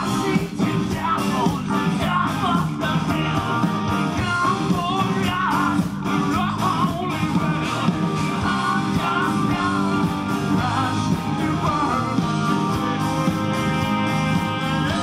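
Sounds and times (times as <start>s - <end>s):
person singing: 0.0s - 13.5s, 14.7s - 15.0s
drums: 0.0s - 15.0s
electric guitars: 0.0s - 15.0s
keyboard: 0.0s - 15.0s.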